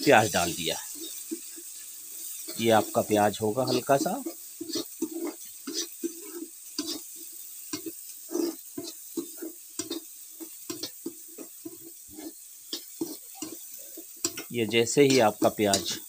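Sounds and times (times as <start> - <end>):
onions sizzling in oil: 0.0 - 16.0
spatula scraping a pan: 0.0 - 16.0.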